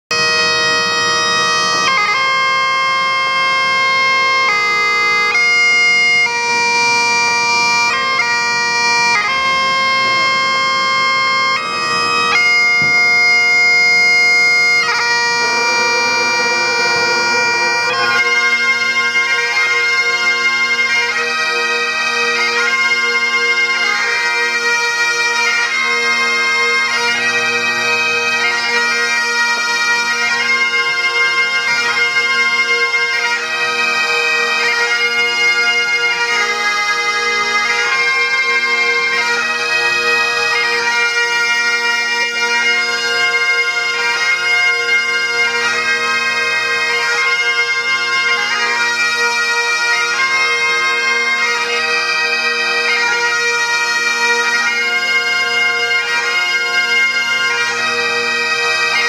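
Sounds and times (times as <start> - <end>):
bagpipes playing slow tune: 0.1 - 59.0.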